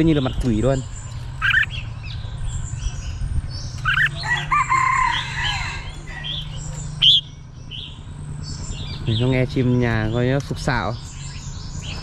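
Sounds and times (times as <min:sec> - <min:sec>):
bird chirping and whistling: 0:00.0 - 0:12.0
steady low hum: 0:00.0 - 0:12.0.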